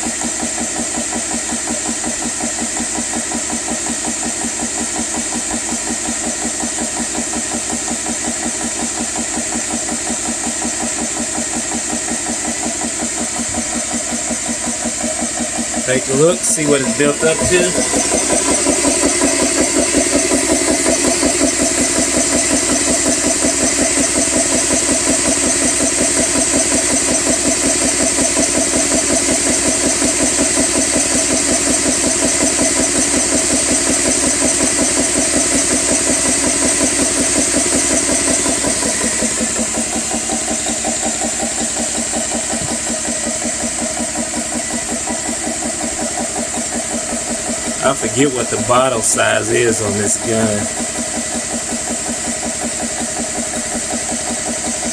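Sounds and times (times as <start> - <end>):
air compressor pumping: 0.0 - 54.9.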